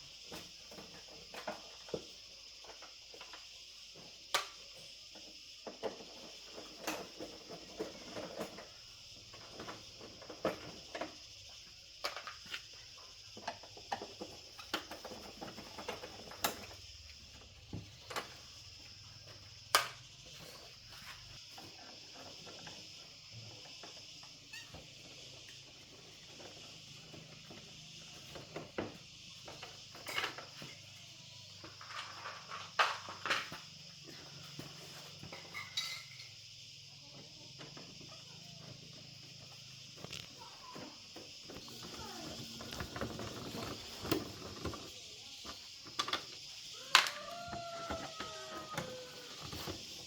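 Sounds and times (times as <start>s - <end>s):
insect chirring: 0.0s - 50.0s.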